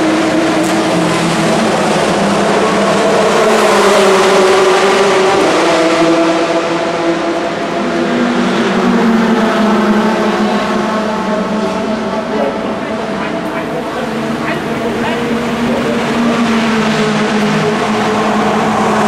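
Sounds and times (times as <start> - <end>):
racing car engine running: 0.0 - 19.0.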